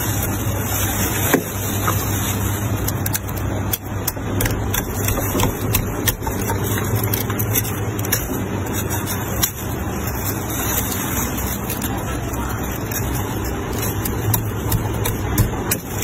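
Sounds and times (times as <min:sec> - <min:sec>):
freezer low hum: 0:00.0 - 0:16.0
plastic bag crinkling: 0:00.0 - 0:16.0
plastic spoon scraping frost: 0:00.0 - 0:16.0.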